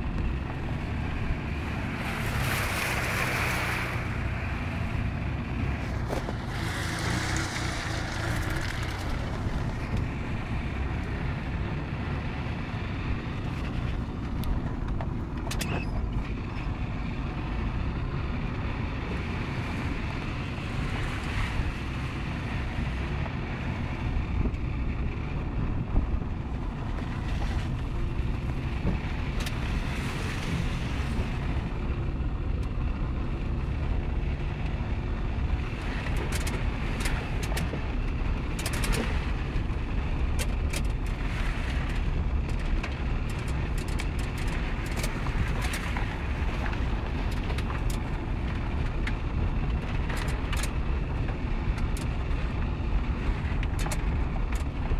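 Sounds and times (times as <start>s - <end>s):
car engine rumbling off-road: 0.0s - 54.9s.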